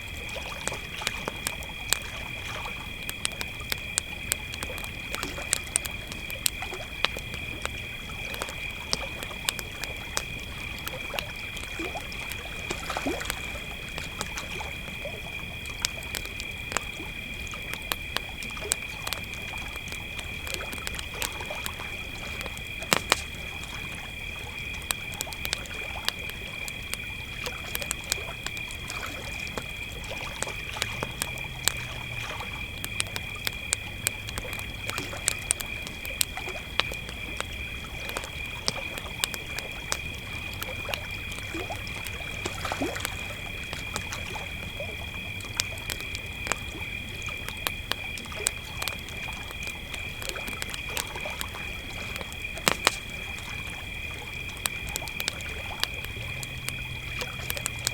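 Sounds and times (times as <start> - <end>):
campfire crackling: 0.0 - 57.9
crickets chirping: 0.0 - 57.9.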